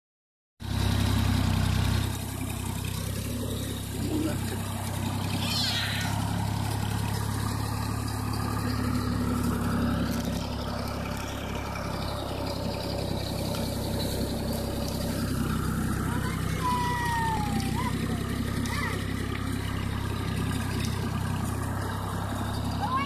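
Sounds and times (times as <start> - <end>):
tractor engine running: 0.6 - 23.0.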